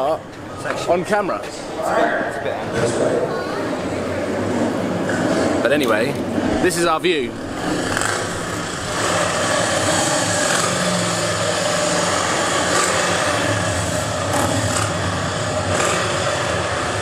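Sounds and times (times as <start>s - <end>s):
distant racing car engine: 0.0s - 17.0s
motorcycles rumbling: 0.0s - 17.0s.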